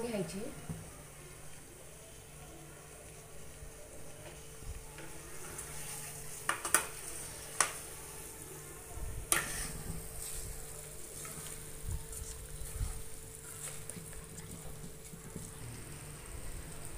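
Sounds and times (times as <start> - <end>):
masala sizzling in oil: 0.0 - 16.9.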